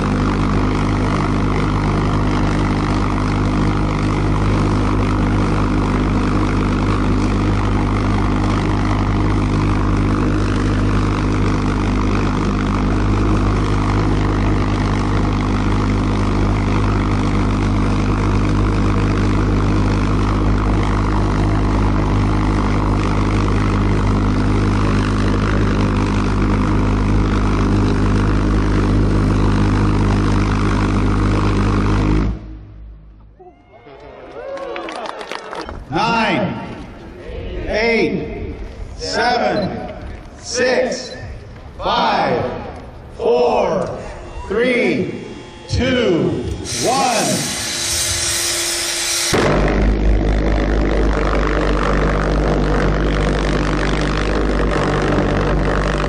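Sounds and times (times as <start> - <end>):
pulse jet engine running: 0.0 - 33.4, 37.8 - 56.0.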